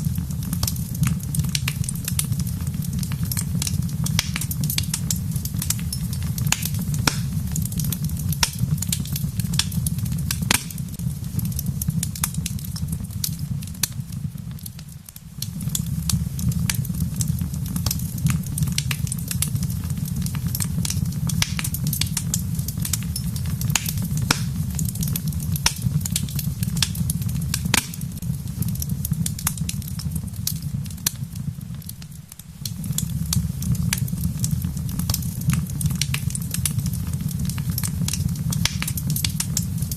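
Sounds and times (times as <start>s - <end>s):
fire low rumble: 0.0s - 39.9s
wood fire crackling: 0.0s - 39.9s.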